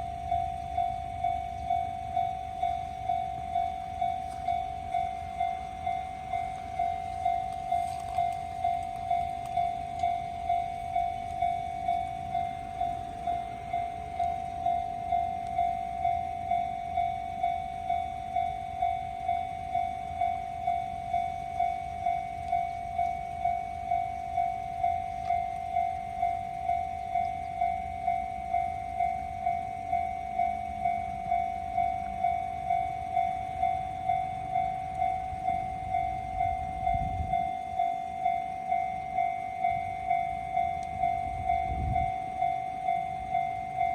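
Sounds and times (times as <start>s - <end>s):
level crossing alarm ringing: 0.0s - 43.9s.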